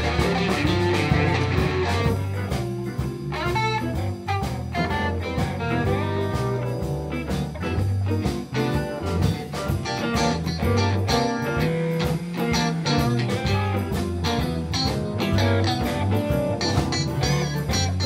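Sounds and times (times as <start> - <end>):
bass guitar: 0.0 - 18.0
electric guitars: 0.0 - 18.0
keyboard: 0.0 - 18.0
steady drum beat: 0.0 - 18.0.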